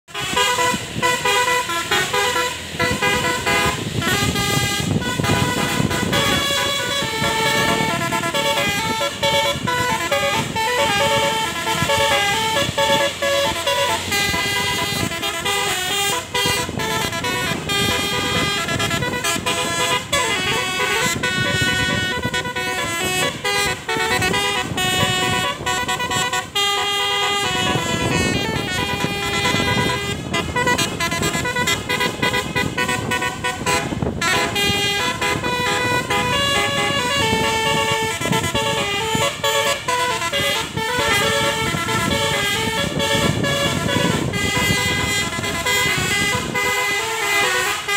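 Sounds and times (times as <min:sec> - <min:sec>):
bus horn playing a tune: 0:00.0 - 0:47.9.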